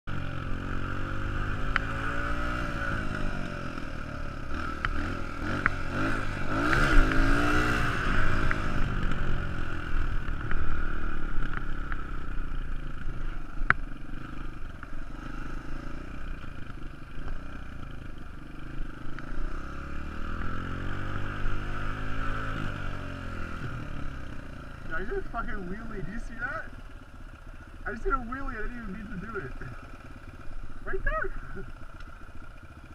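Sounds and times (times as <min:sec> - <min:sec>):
motorcycle engine revving: 0:00.1 - 0:32.9.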